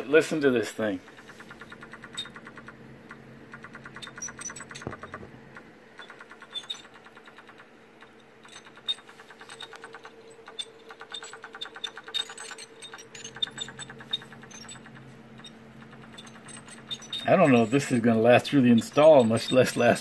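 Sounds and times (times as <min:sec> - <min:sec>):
hard drive squeaking: 0:00.0 - 0:20.0
laptop steady hum: 0:00.0 - 0:20.0.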